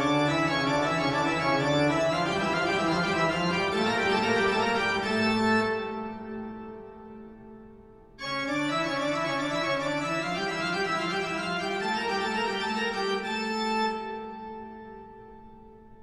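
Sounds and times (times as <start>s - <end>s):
sustained organ chords: 0.0s - 16.0s.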